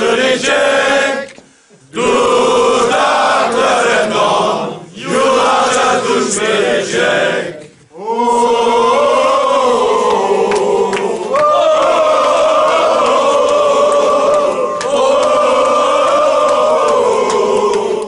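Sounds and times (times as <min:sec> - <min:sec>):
crowd of men singing in unison: 0:00.0 - 0:18.0.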